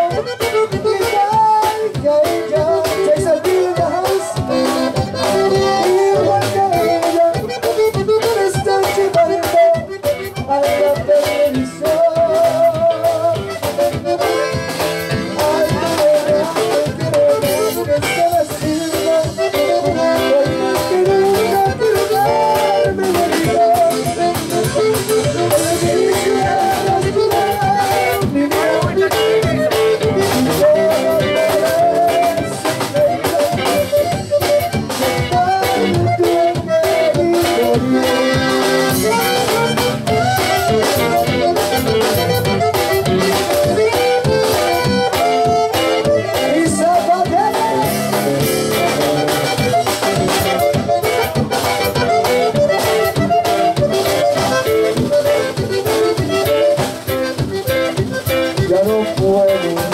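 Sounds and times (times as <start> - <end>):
accordion melody: 0.0 - 59.9
bass guitar: 0.0 - 59.9
drum kit beat: 0.0 - 59.9
guitar: 0.0 - 59.9.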